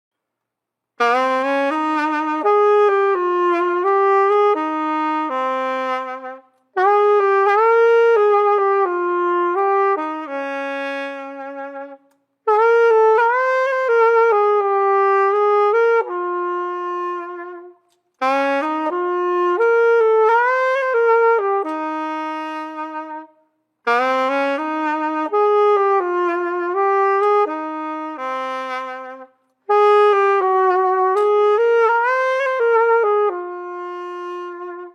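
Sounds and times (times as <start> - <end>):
solo wind instrument melody: 0.8 - 34.9.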